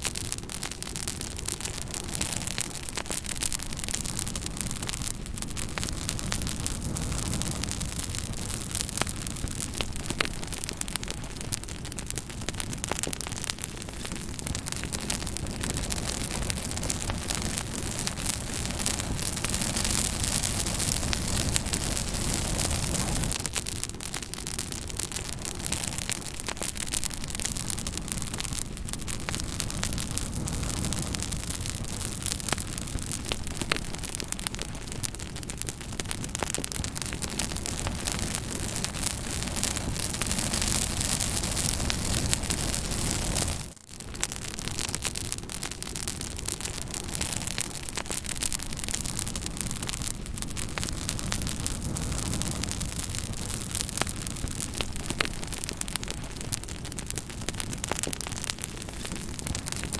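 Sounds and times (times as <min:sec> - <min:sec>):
fire crackles and pops: 0:00.0 - 0:59.9
wood fire burning: 0:00.0 - 0:59.9.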